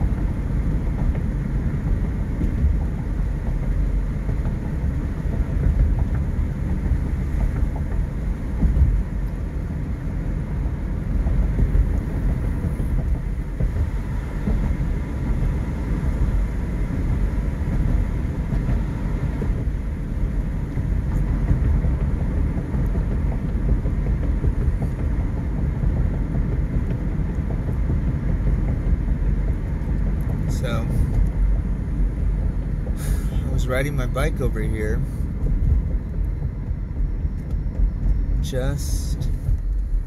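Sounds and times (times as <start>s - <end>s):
car interior road and engine rumble: 0.0s - 40.0s.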